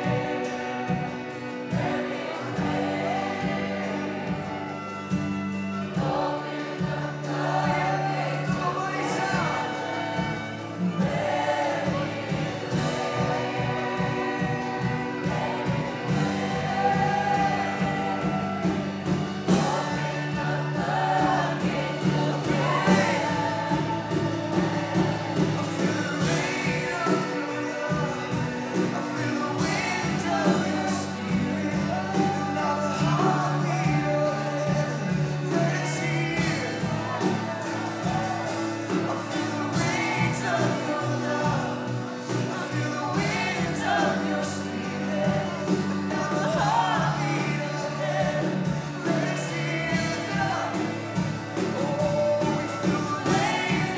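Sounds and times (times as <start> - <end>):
voices singing worship music: 0.0 - 53.9.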